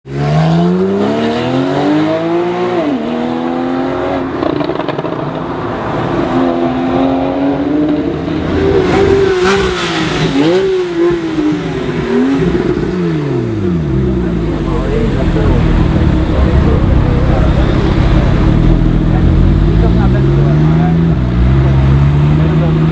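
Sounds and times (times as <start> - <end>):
car engine revving and accelerating: 0.1 - 22.9.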